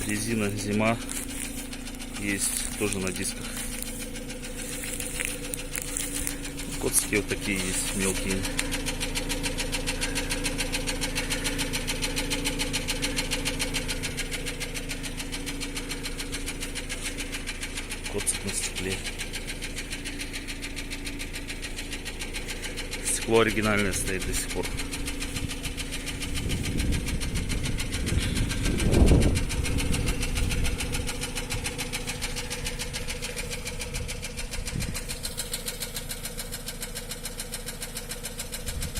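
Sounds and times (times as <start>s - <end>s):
rapid valve ticking: 0.0s - 38.8s
car engine idling: 0.0s - 38.9s.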